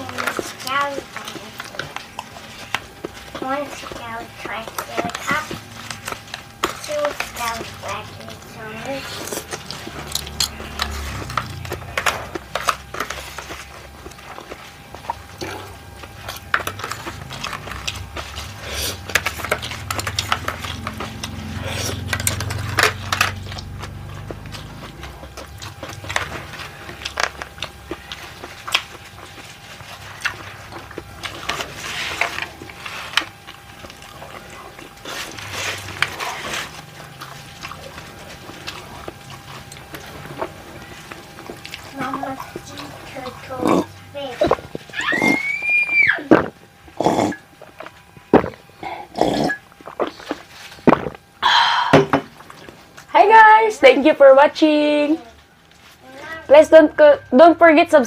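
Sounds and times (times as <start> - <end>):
chewing and mouth smacks: 0.0 - 51.4, 52.3 - 53.1.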